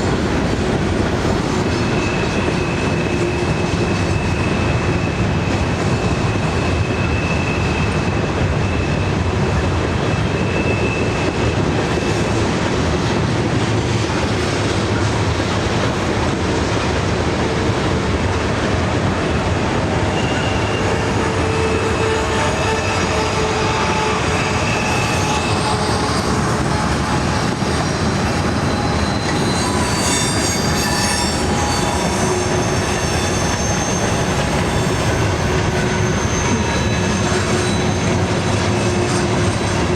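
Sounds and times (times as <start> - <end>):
train cars rolling by: 0.0 - 39.9
wheels squealing on rails: 0.0 - 39.9.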